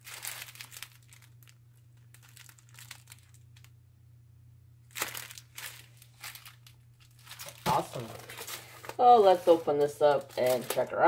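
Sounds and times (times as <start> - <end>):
plastic packaging crinkling: 0.0 - 3.8, 4.9 - 11.0.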